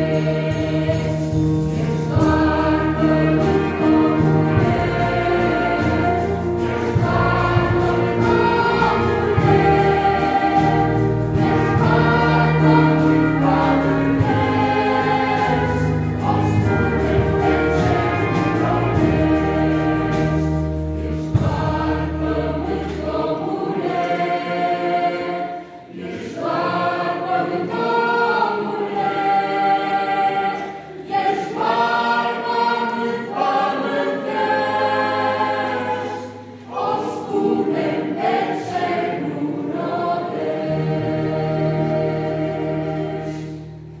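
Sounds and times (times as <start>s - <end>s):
choir singing a hymn: 0.0s - 44.0s
string orchestra: 0.0s - 44.0s.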